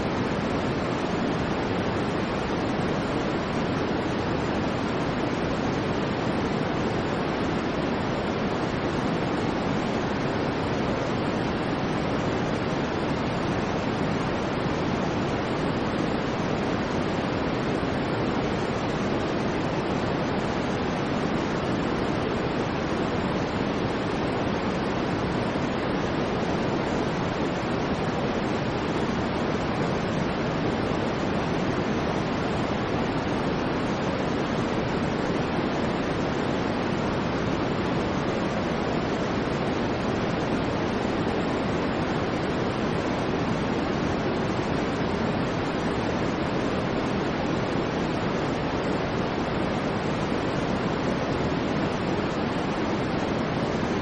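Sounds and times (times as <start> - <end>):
low white noise hiss: 0.0 - 54.0.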